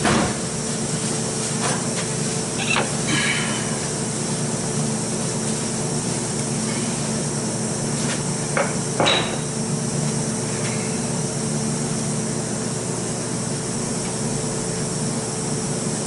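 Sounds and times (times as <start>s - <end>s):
steady shop hum: 0.0s - 16.0s.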